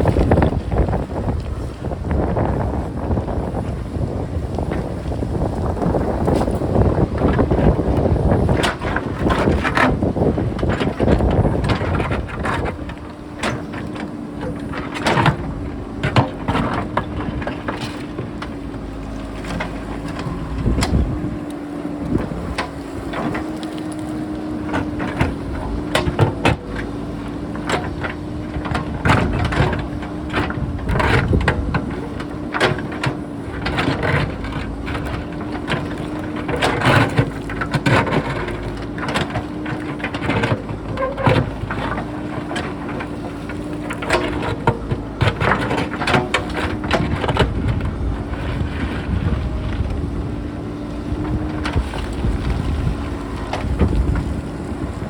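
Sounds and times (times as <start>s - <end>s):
diesel engine droning: 0.0s - 55.0s
wind buffeting microphone: 0.0s - 55.0s.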